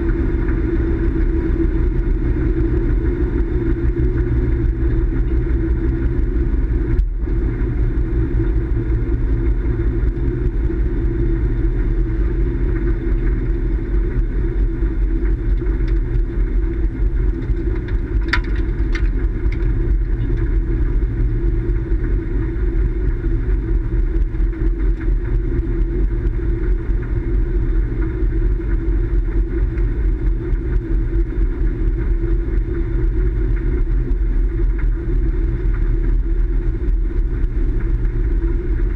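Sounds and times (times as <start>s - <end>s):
motor vehicle rumbling: 0.0s - 38.9s.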